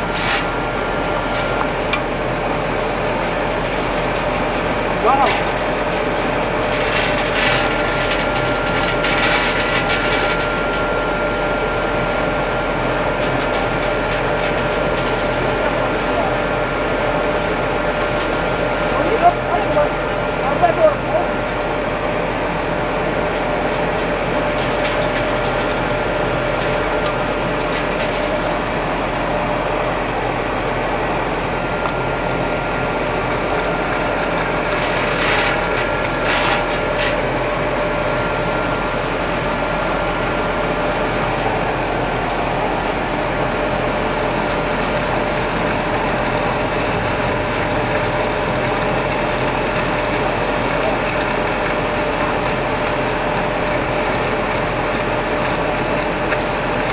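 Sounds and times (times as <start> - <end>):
mill grinding with mechanical whir: 0.0 - 56.9.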